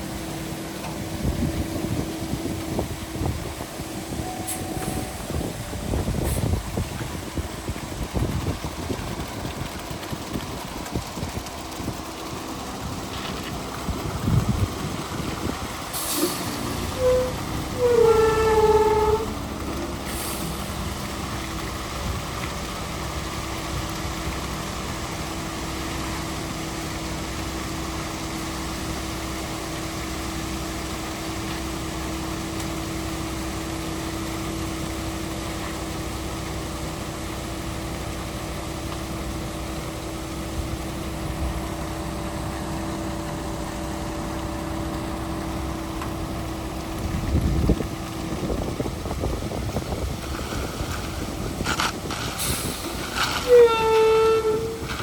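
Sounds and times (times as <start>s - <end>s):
heavy engine running: 0.0s - 55.0s.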